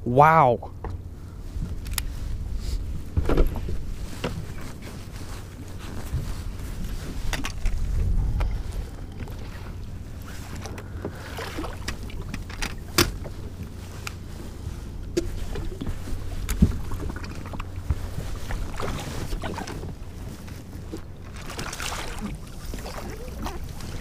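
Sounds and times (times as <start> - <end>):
water lapping against boat hull: 0.6 - 24.0
wind rumbling on microphone: 0.7 - 24.0.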